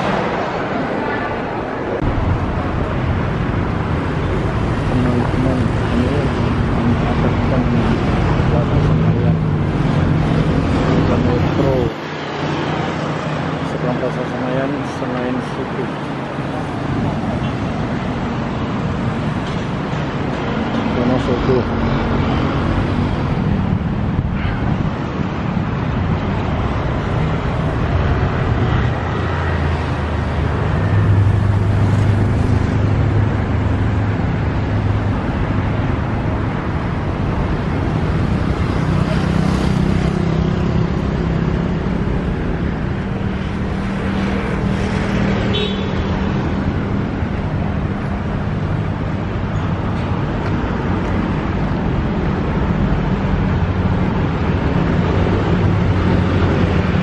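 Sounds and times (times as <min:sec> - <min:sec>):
city road traffic rumble: 0:00.0 - 0:57.0
vehicles passing close: 0:00.0 - 0:57.0.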